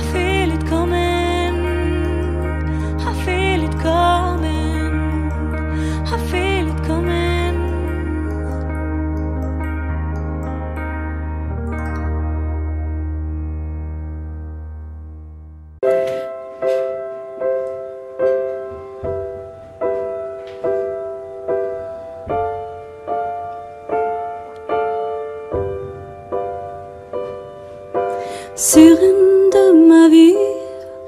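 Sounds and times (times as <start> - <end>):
slow piano chords: 0.0 - 31.0.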